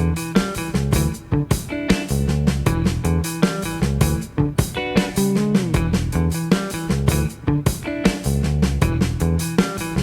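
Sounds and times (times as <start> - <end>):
upbeat rock music with guitar: 0.0 - 10.0.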